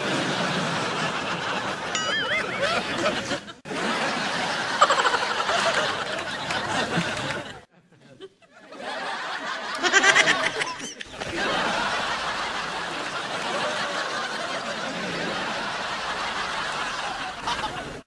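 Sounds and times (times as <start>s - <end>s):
people laughing: 0.0s - 18.0s.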